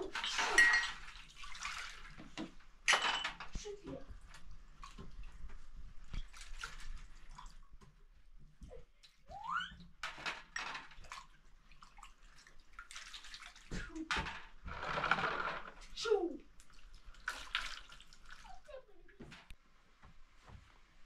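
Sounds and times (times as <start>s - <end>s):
water sloshing in a metal tray: 0.0s - 14.6s, 15.5s - 18.8s.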